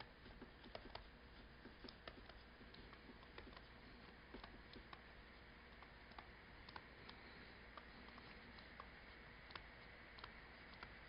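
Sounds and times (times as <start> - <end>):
stylus tapping tablet screen: 0.0 - 11.0.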